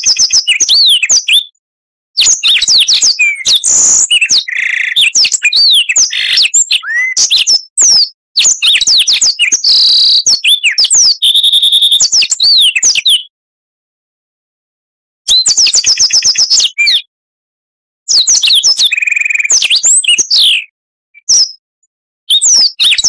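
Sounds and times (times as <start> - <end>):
magpie-robin singing: 0.0 - 1.6, 2.2 - 13.3, 15.3 - 17.1, 18.1 - 21.6, 22.3 - 23.0.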